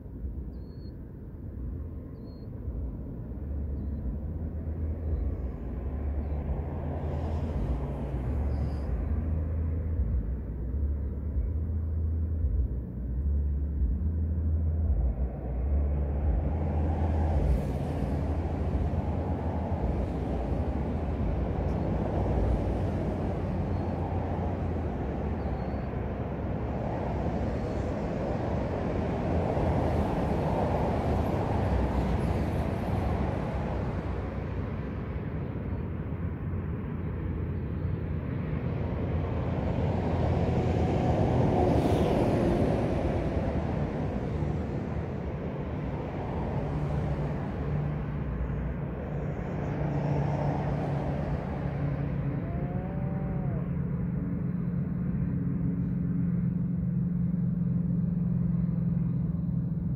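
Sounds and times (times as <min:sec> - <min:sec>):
rushing tyre noise: 0:00.0 - 0:59.9.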